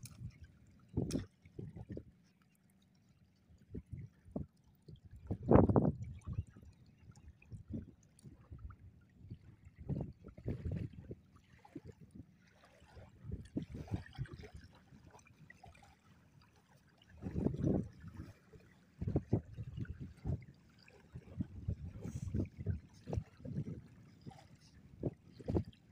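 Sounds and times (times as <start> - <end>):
water sloshing and splashing: 0.0 - 25.9.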